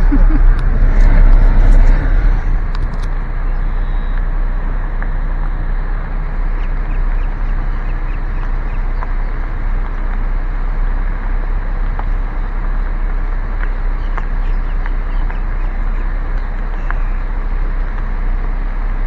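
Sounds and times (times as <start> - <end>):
car driving slowly: 0.0 - 19.0.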